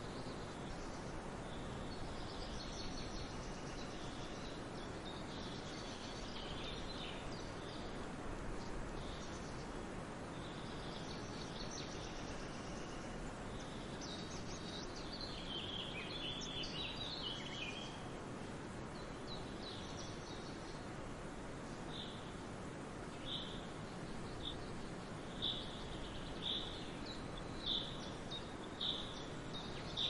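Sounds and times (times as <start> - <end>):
outdoor background hiss: 0.0 - 30.0
small birds chirping: 0.0 - 30.0.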